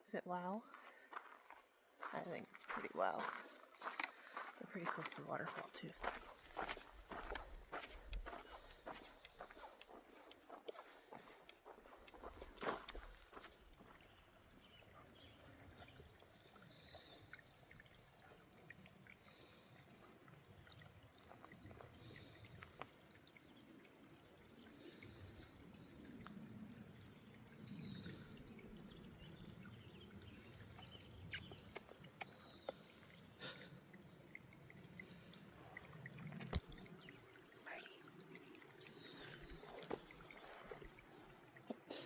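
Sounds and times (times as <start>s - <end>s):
creek trickling: 0.6s - 42.0s.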